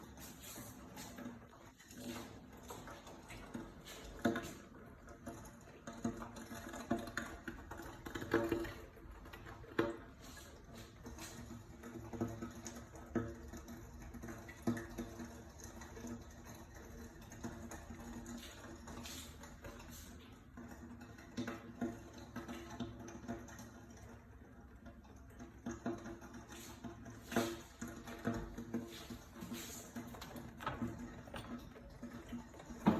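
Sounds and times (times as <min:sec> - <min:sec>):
air conditioner popping clicks: 0:00.0 - 0:32.9.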